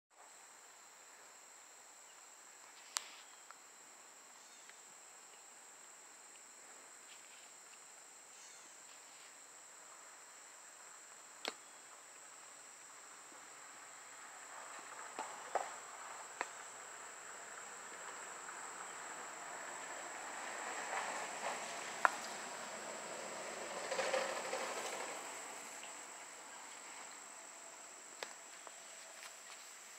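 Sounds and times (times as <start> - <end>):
high-pitched insect trill: 0.9 - 29.9.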